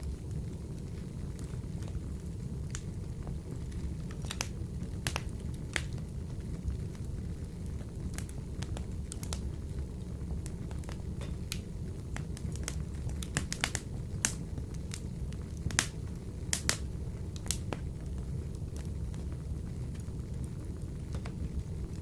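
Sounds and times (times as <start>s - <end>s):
low fire rumble: 0.0s - 22.0s
wood fire crackling and popping: 0.0s - 22.0s.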